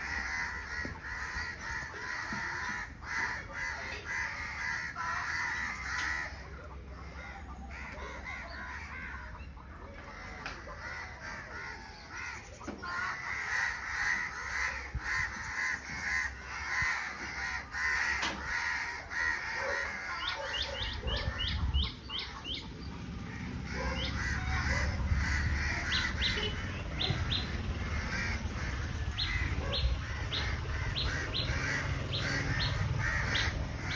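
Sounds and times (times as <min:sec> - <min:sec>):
birds cawing and calling: 0:00.0 - 0:33.9.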